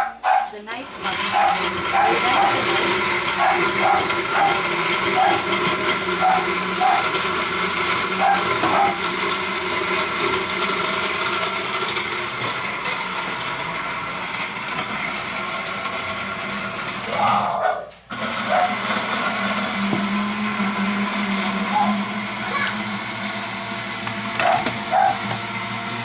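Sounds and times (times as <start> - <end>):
electric blender running: 0.0 - 26.0.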